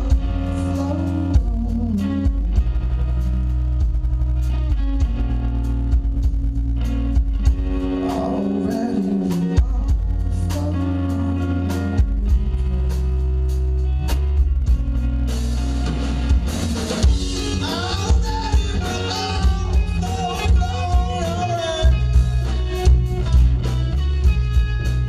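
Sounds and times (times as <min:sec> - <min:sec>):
bass guitar: 0:00.0 - 0:25.0
drum kit: 0:00.0 - 0:25.0
electric guitar: 0:00.0 - 0:25.0.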